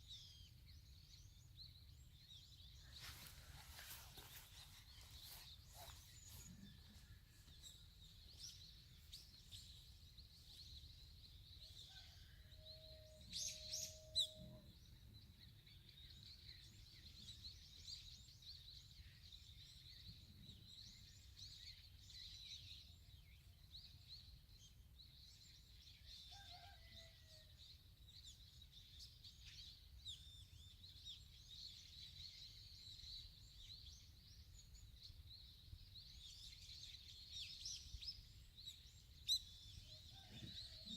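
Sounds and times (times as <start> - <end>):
small birds chirping: 0.0 - 26.9, 27.8 - 40.9.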